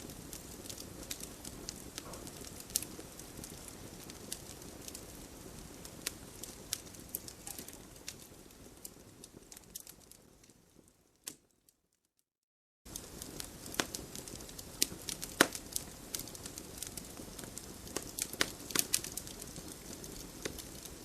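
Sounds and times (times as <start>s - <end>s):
low rush of burning: 0.0s - 10.9s, 12.9s - 21.0s
campfire crackling: 0.0s - 11.6s, 12.9s - 21.0s.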